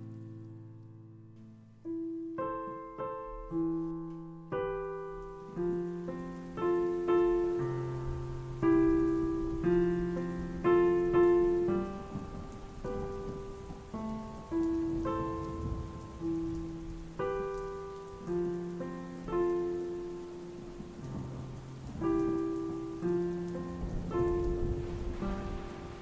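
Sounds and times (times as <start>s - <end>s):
slow piano melody: 0.0s - 26.0s
steady rain hiss: 0.0s - 26.0s.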